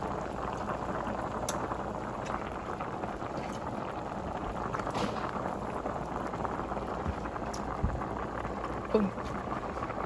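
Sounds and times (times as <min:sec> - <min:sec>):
water boiling with bubbling: 0:00.0 - 0:10.0.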